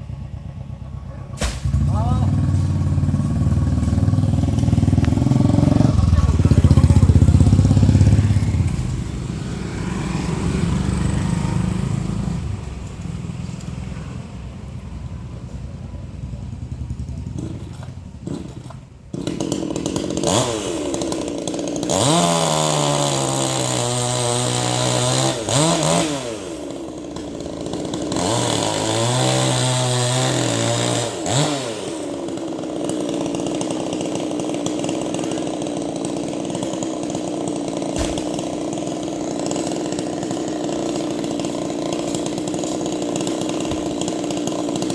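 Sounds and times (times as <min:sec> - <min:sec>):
chainsaw engine revving: 0:01.3 - 0:15.2, 0:16.2 - 0:44.9.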